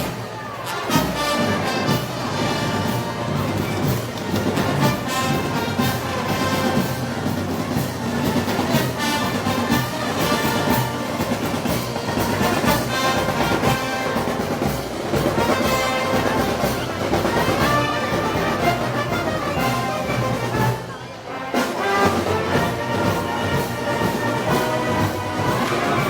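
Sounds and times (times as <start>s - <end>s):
trumpets and trombones: 0.0s - 26.0s
steady drum beat: 0.9s - 20.9s, 21.6s - 26.0s.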